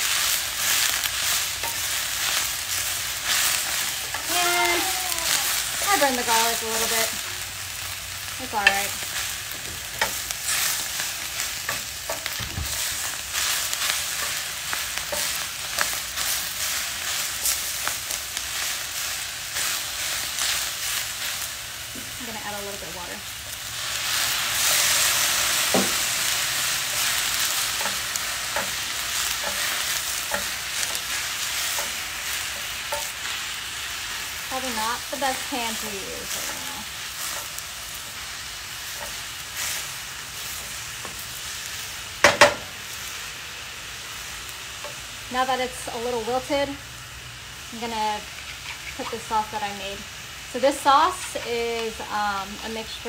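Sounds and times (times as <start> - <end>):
food sizzling in pan: 0.0 - 53.0.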